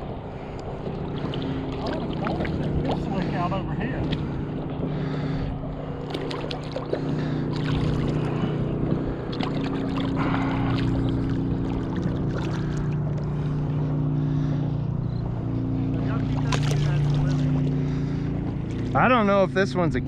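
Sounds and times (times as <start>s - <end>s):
water splashes: 0.0s - 14.7s, 15.6s - 19.2s
boat motor running: 0.0s - 20.0s.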